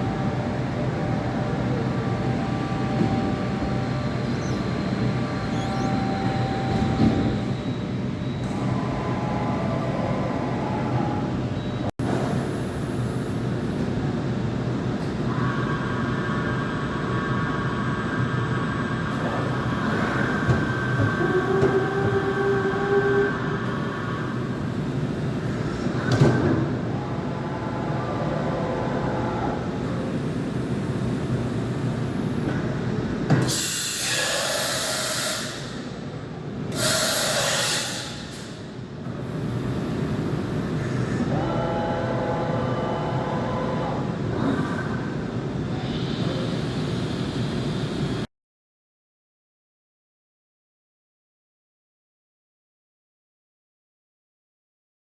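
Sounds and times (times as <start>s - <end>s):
milling machine humming and whining: 0.0s - 48.3s.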